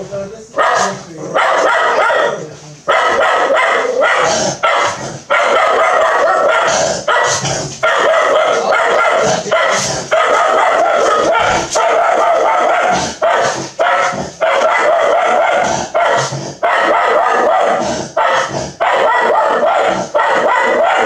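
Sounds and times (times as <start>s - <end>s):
dog barking and yapping: 0.6s - 21.0s.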